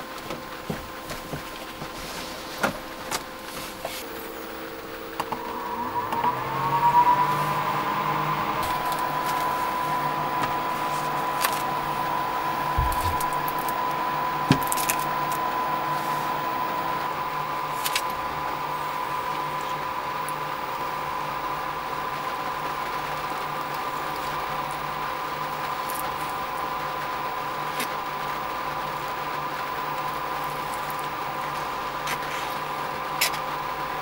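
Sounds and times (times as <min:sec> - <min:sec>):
electric fan motor whirring: 0:00.0 - 0:34.0.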